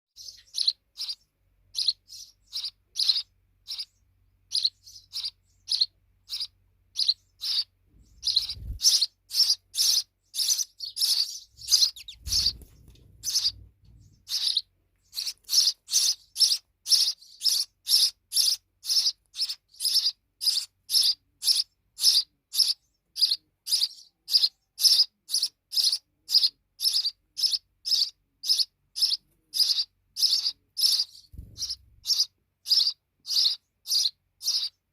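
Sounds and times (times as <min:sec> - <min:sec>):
sparrows chirping: 0:00.1 - 0:34.9.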